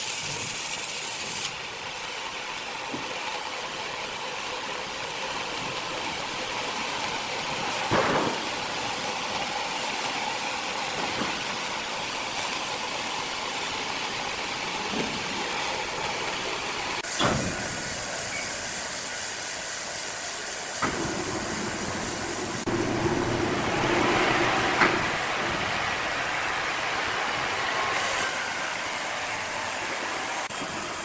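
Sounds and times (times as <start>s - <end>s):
sawmill machinery running: 0.0s - 31.0s.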